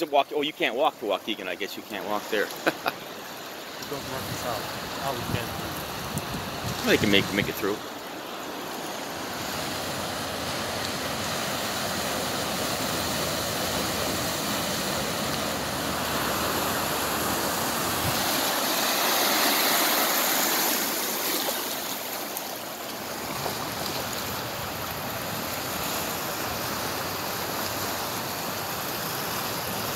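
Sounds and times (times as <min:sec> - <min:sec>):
floodwater rushing: 0:00.0 - 0:29.9.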